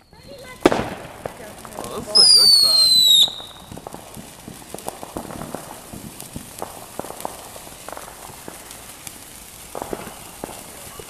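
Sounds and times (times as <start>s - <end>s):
crackling pops: 0.0s - 11.0s
firework fountain hissing: 0.0s - 11.0s.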